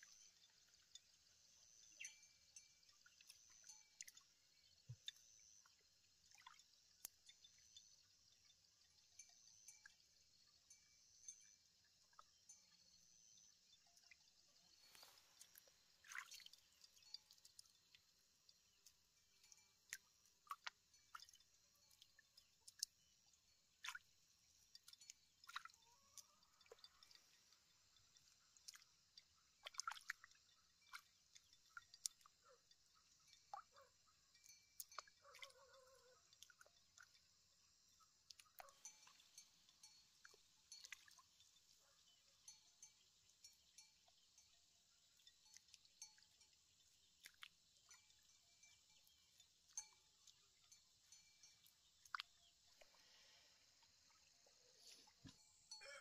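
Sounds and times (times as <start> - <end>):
water drips and splashes: 0.0 - 56.0.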